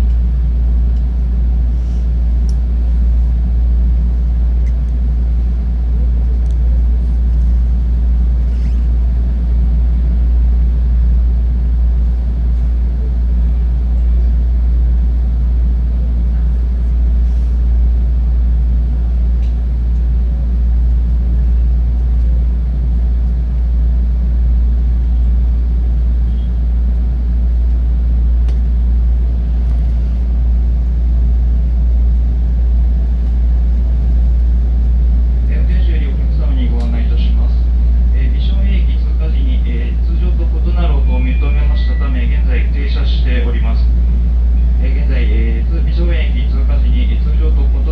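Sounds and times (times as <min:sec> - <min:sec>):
train equipment rumble and hum: 0:00.0 - 0:47.9.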